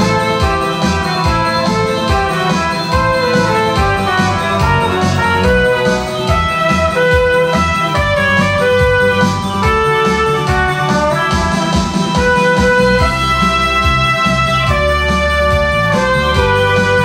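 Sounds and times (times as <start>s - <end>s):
band backing track: 0.0s - 17.0s
cornet melody: 0.0s - 17.0s.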